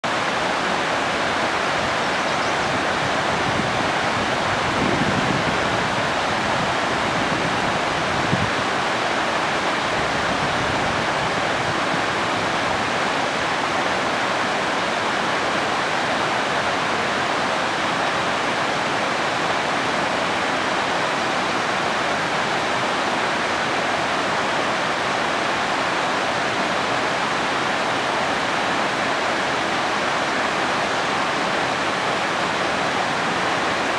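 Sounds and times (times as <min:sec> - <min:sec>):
creek rushing over rocks: 0:00.0 - 0:33.9.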